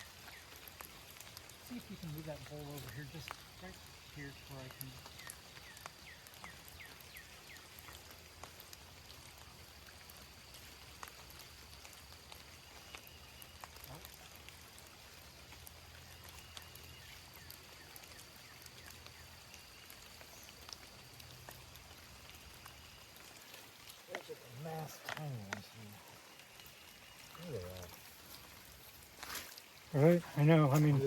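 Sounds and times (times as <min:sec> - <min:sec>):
faint trickle of water: 0:00.0 - 0:31.0
water drips and splashes: 0:00.0 - 0:31.0.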